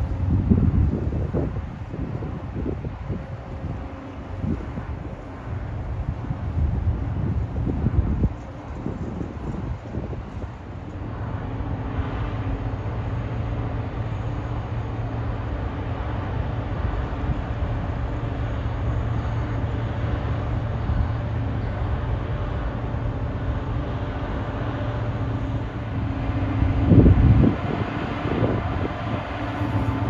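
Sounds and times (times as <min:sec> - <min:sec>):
continuous wash of noise: 0:00.0 - 0:30.0
large engine running: 0:00.0 - 0:30.0.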